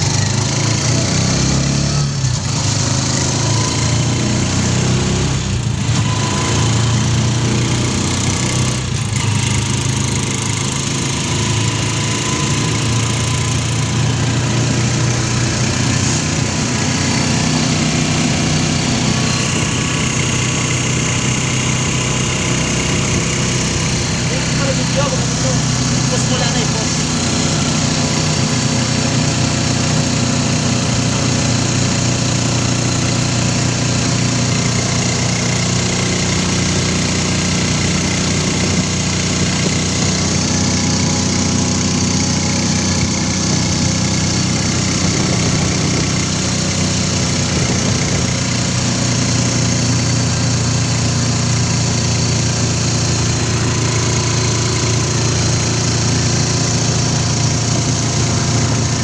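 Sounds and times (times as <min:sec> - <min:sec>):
motorcycle engine running: 0:00.0 - 0:59.0
rushing air and road noise: 0:00.0 - 0:59.0.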